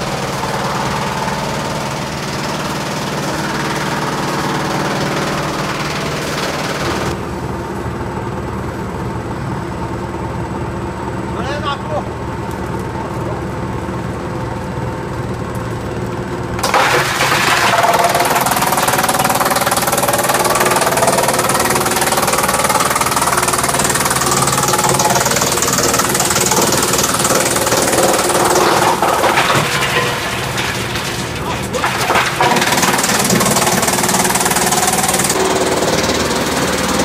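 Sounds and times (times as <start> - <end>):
wood chipper humming: 0.0 - 37.0.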